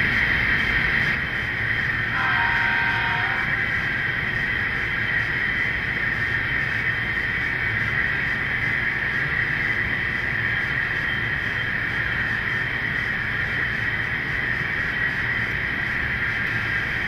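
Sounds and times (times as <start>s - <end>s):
high-pitched whine: 0.0s - 17.0s
model locomotives humming: 0.0s - 17.0s.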